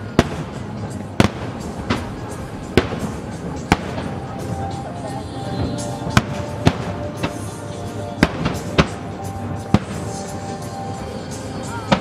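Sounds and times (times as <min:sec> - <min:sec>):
fireworks bursting: 0:00.0 - 0:10.6
music playing: 0:00.0 - 0:12.0.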